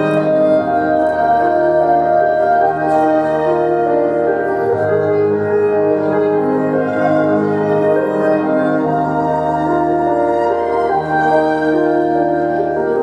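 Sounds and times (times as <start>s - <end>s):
instrumental music with bass line: 0.0s - 13.0s.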